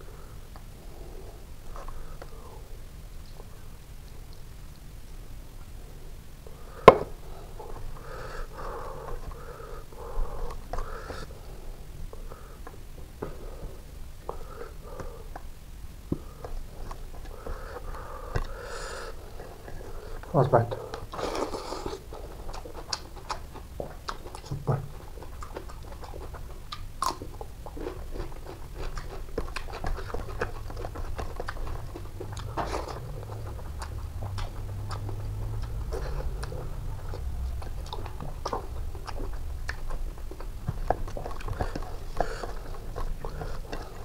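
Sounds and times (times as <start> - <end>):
person chewing: 6.5 - 44.0.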